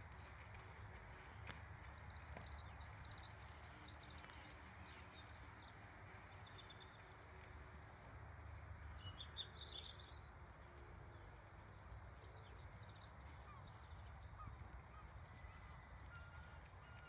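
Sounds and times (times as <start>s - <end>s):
birds chirping: 0.8s - 7.2s, 8.4s - 17.0s.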